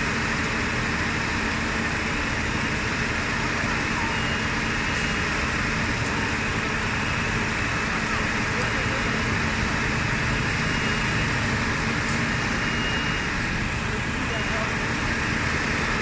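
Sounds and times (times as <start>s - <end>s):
fire engine humming: 0.0s - 16.0s.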